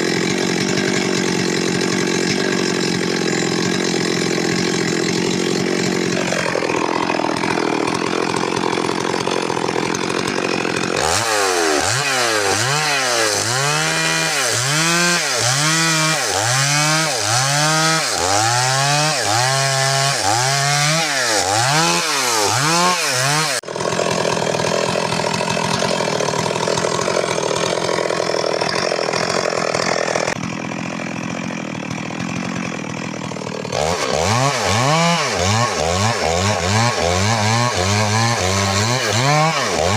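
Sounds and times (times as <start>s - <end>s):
chainsaw cutting through wood: 0.0s - 39.9s.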